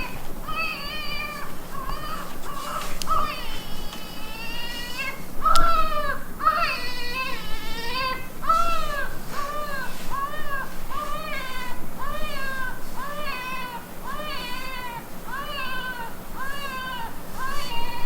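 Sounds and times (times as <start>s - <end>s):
recorded infant crying from speaker: 0.0s - 18.0s.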